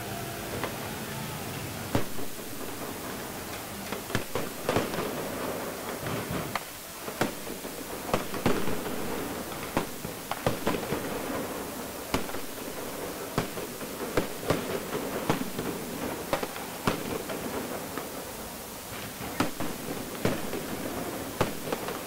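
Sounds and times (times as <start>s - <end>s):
fireworks bangs: 0.0s - 22.0s
steady wash of noise: 0.0s - 22.0s.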